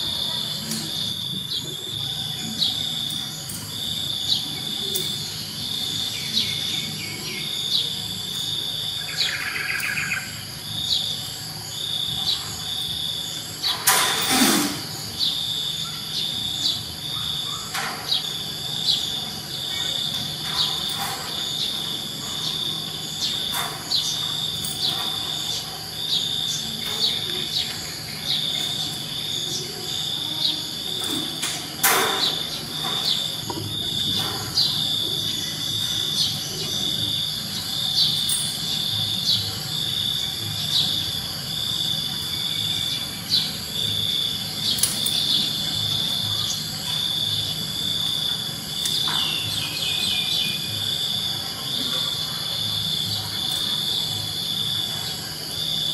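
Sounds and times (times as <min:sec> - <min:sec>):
insect chirping: 0:00.0 - 0:55.9.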